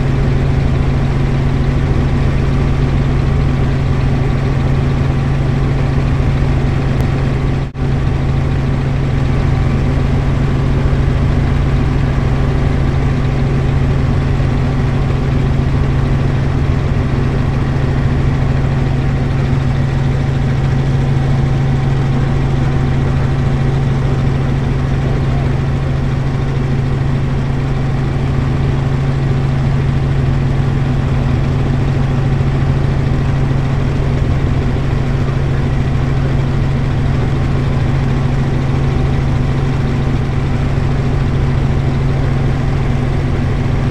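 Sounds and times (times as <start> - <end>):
helicopter rotor and engine drone: 0.0 - 43.9.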